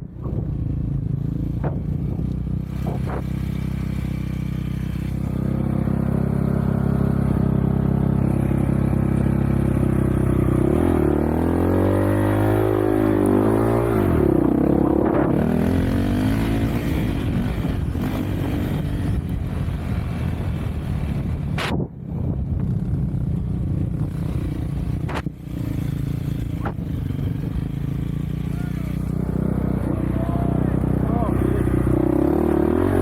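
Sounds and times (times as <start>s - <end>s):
off-road vehicle engine revving: 1.3s - 19.2s, 24.2s - 33.0s.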